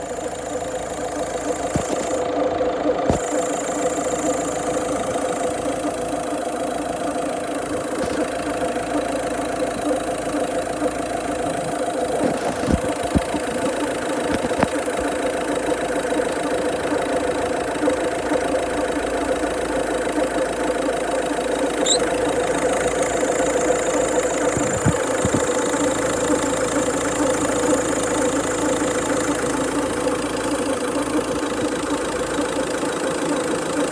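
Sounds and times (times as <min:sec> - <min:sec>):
engine idling: 0:00.0 - 0:33.9
sharp engine clicks: 0:00.0 - 0:33.9.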